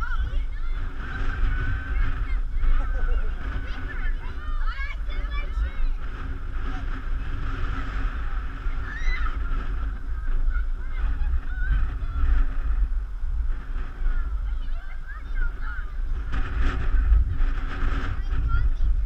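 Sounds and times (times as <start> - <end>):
faint high hum: 0.0 - 19.0
wind buffeting microphone: 0.0 - 19.0.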